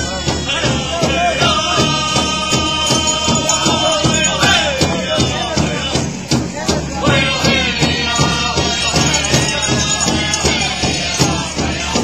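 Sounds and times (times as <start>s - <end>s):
high-pitched group singing: 0.0s - 12.0s
steady beat on big drum: 0.0s - 12.0s.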